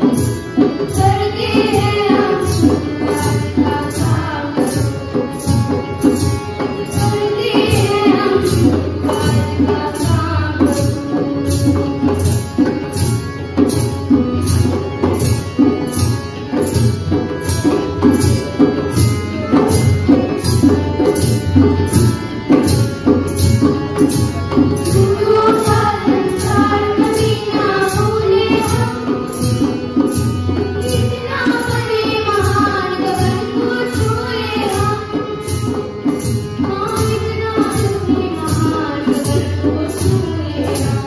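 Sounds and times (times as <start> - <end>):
drum and jingle percussion: 0.0 - 41.0.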